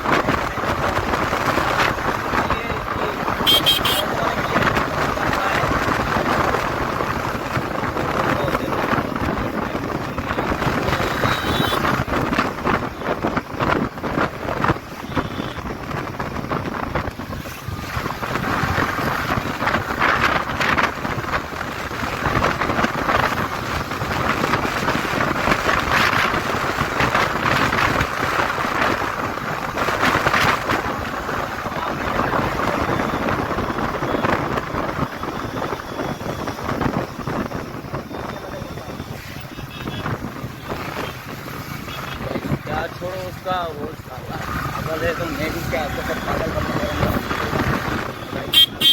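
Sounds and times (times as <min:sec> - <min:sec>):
road noise: 0:00.0 - 0:48.9
wind buffeting microphone: 0:00.0 - 0:48.9
motorcycle engine: 0:00.2 - 0:43.2.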